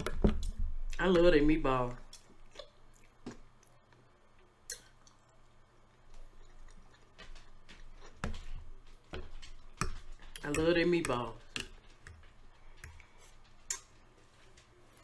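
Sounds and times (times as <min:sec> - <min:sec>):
soft chewing: 0:02.0 - 0:15.0.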